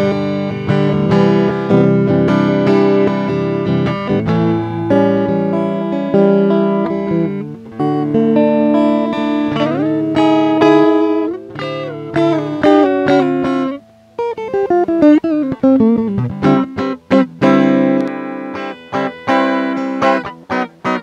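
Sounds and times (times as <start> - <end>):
dry electric guitar: 0.0 - 21.0.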